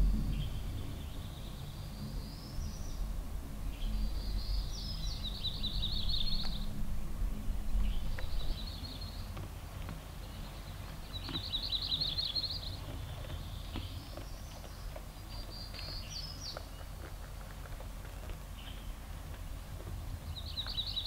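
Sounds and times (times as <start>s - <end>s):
songbird singing: 0.0s - 6.8s, 7.4s - 21.0s
steady low rumble: 0.0s - 21.0s.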